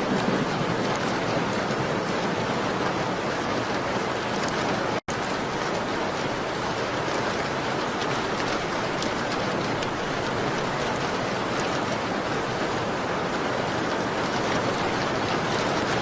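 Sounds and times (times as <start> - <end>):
rain pattering on a window: 0.0 - 16.0.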